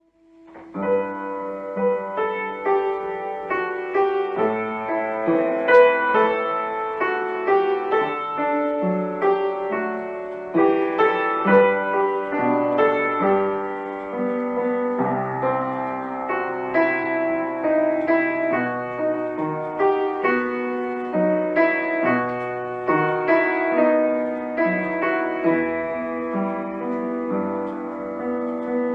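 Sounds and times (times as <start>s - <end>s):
gentle slow piano music: 0.0s - 28.9s.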